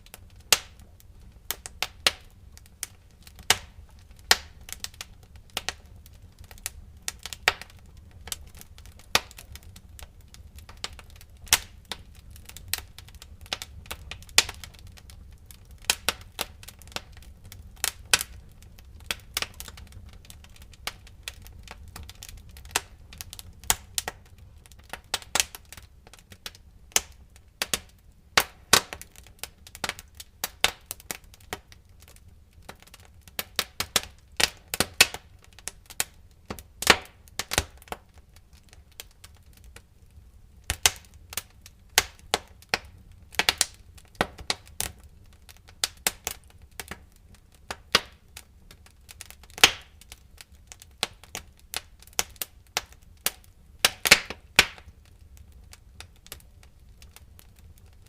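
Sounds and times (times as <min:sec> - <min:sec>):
firewood crackling and popping: 0:00.0 - 0:58.0
low rumble of flames: 0:00.0 - 0:58.0.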